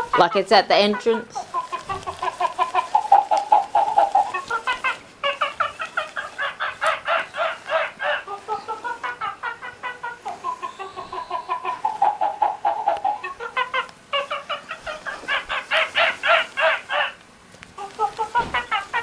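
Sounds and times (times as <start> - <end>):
toy monkey chatter: 0.0 - 17.2, 17.8 - 19.0.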